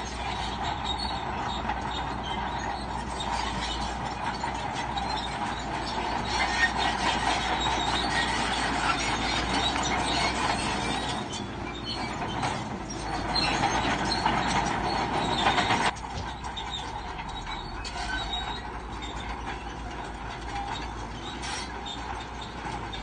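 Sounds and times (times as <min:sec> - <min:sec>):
bulldozer engine running: 0:00.0 - 0:23.0
steel tracks squealing and clanking: 0:00.0 - 0:23.0.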